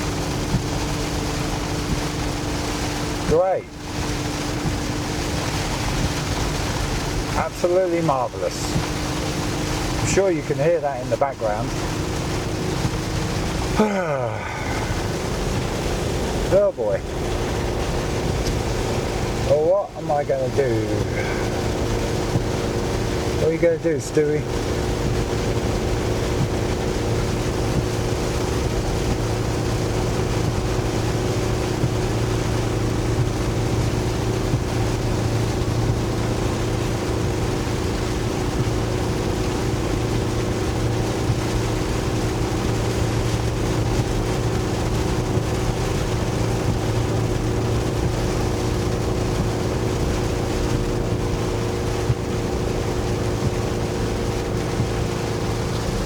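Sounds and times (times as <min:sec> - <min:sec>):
heavy rain and wind hiss: 0:00.0 - 0:56.0
truck engine running: 0:00.0 - 0:56.0.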